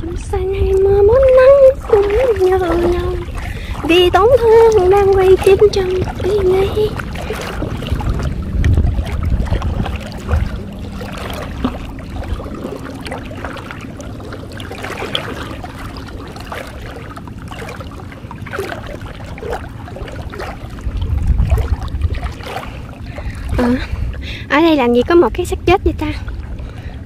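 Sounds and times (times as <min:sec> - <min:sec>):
water lapping around a boat: 0:00.0 - 0:27.0
wind buffeting the microphone: 0:00.0 - 0:27.0.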